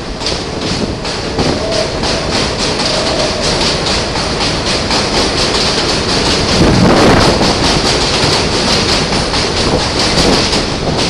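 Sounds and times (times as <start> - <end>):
train wheels screeching on rail: 0.0 - 11.0.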